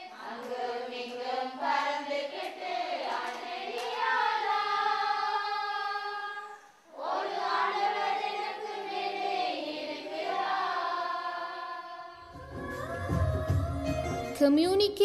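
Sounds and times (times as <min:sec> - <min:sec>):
children singing: 0:00.0 - 0:14.2.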